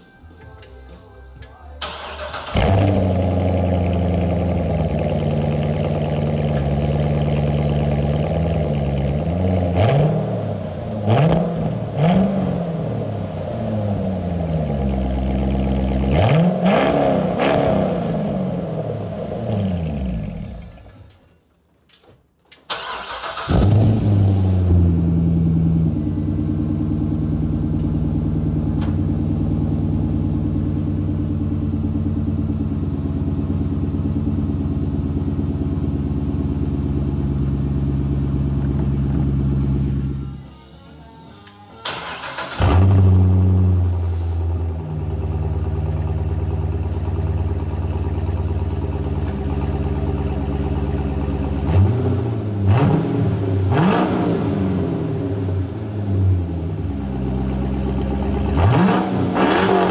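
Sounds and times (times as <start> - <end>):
car engine starting: 0.4 - 59.9
car engine revving: 1.8 - 21.1, 22.7 - 40.5, 41.8 - 59.9.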